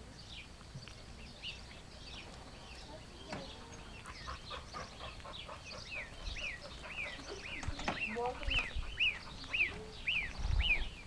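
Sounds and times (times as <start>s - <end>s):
ducklings peeping: 0.1s - 11.0s.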